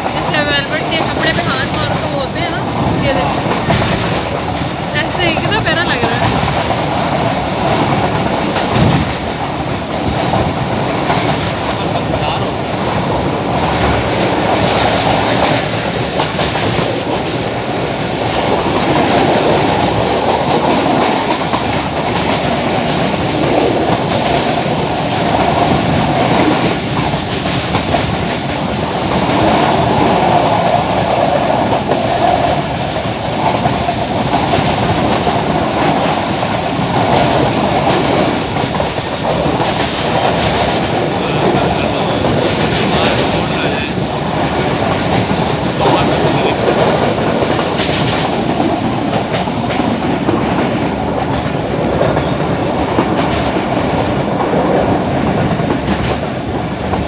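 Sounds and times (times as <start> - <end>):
passenger train rumbling: 0.0 - 57.0.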